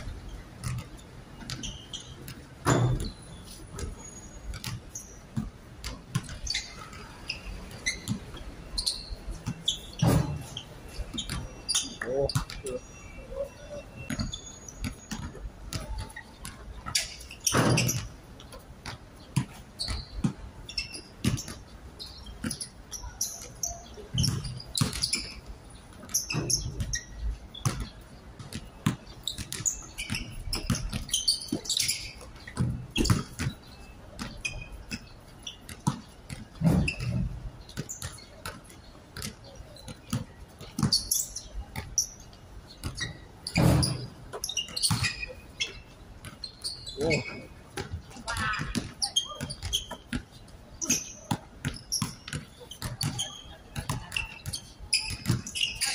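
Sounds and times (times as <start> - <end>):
basketball bouncing on court: 0.0 - 55.9
sneakers squeaking: 0.0 - 55.9.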